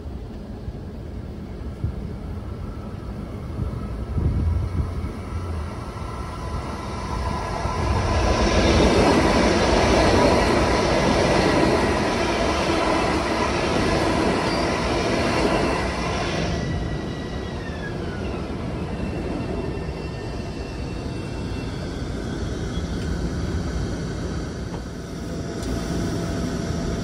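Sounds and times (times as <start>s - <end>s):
steady high-pitched whine: 0.0s - 27.0s
train wheels rushing on rails: 0.0s - 27.0s.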